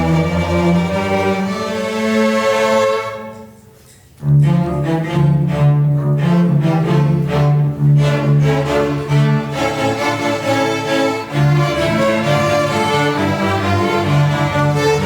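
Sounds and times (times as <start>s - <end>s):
cellos and double basses pulsing: 0.0s - 15.0s
string orchestra playing: 0.0s - 15.0s.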